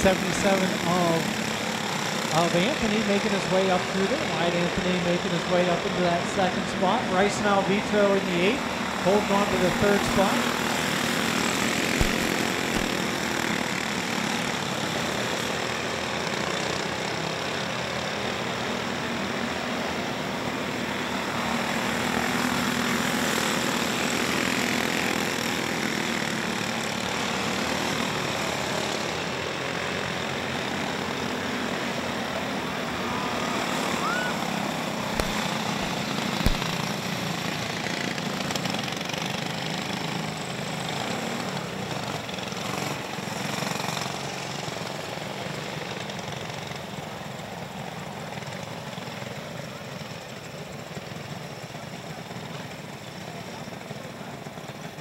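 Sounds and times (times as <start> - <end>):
go-kart engines buzzing: 0.0 - 55.0.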